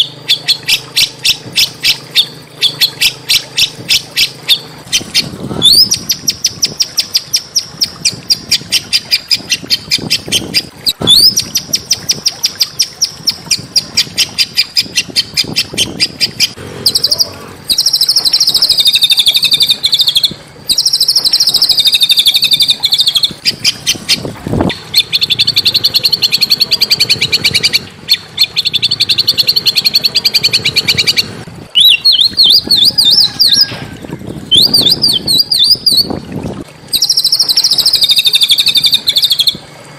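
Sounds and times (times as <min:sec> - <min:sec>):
songbird trilling: 0:00.0 - 0:36.2, 0:36.9 - 0:39.6.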